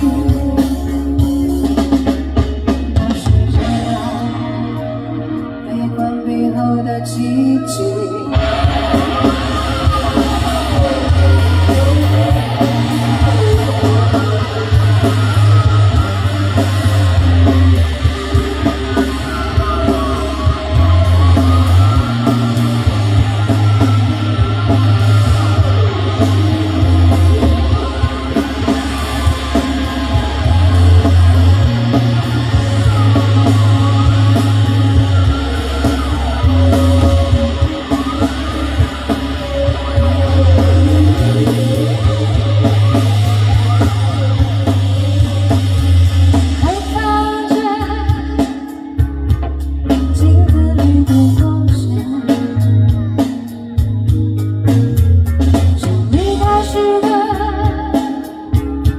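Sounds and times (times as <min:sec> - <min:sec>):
bass guitar notes: 0:00.0 - 0:58.9
drums: 0:00.0 - 0:58.9
sliding electric guitars: 0:00.0 - 0:58.9.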